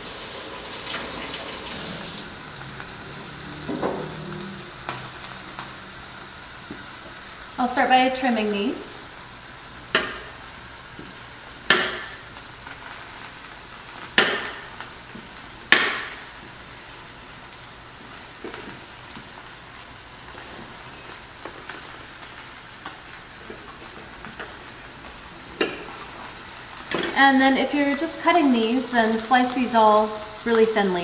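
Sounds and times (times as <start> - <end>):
meat sizzling on grill: 0.0 - 31.0.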